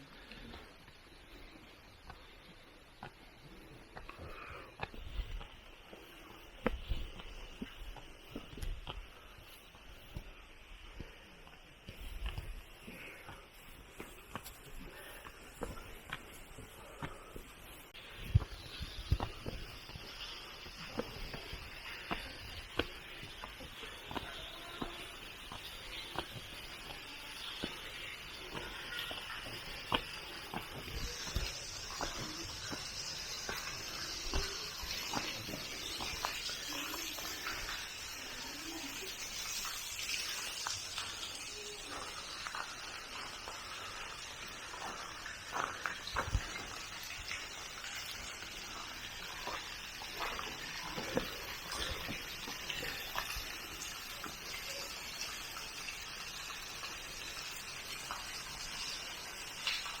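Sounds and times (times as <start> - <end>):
running water rushing: 3.5 - 60.0.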